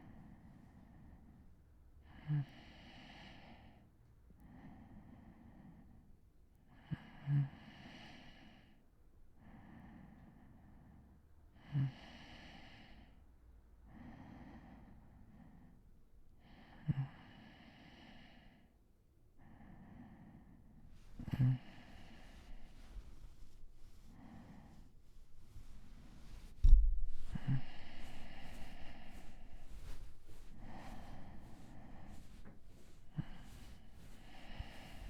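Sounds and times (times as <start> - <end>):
man breathing heavily in sleep: 2.0 - 6.0, 6.7 - 8.8, 9.4 - 15.8, 16.4 - 18.8, 19.4 - 35.0.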